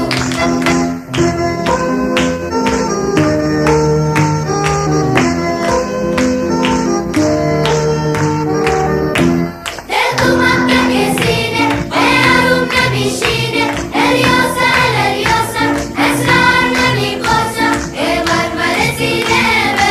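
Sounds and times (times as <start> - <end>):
instrumental music: 0.0 - 19.9.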